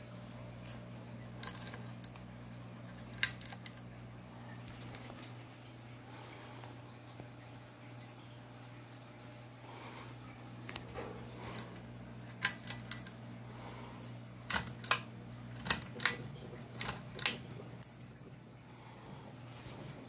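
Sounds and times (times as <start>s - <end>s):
ceiling fan motor humming: 0.0s - 20.0s.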